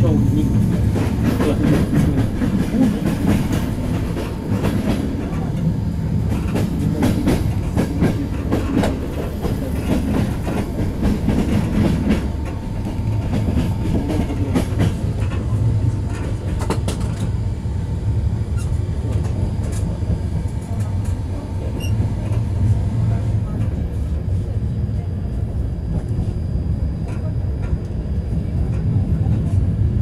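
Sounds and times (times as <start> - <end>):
train rumbling on rails: 0.0 - 30.0.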